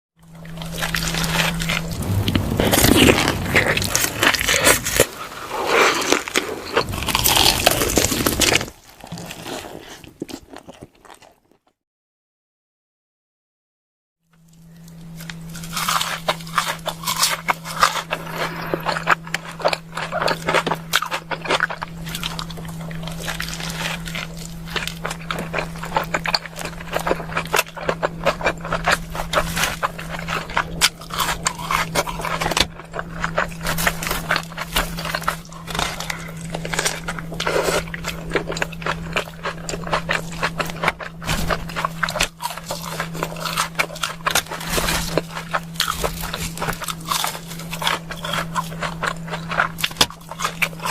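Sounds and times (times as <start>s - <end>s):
steady low hum: 0.2s - 9.8s, 14.3s - 50.9s
bites and crunchy chewing: 0.2s - 11.8s, 14.4s - 50.9s.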